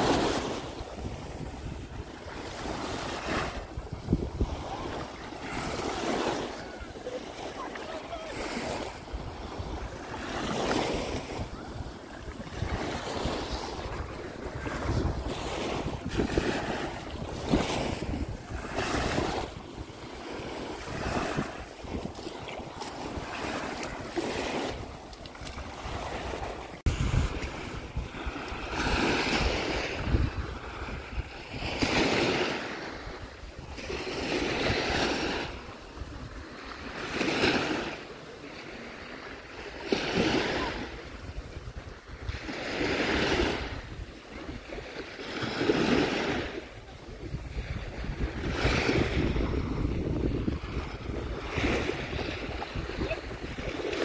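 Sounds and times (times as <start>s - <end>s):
wind rumble on microphone: 0.0s - 7.0s, 8.1s - 36.6s, 40.0s - 54.0s
small waves washing on shore: 0.0s - 54.0s.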